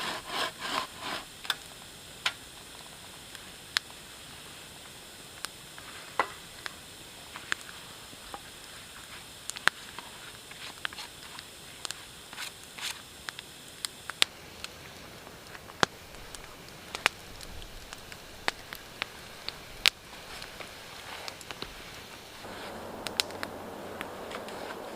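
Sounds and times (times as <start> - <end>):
faint steady hiss: 0.0 - 24.9
wood fire crackling: 0.0 - 24.9.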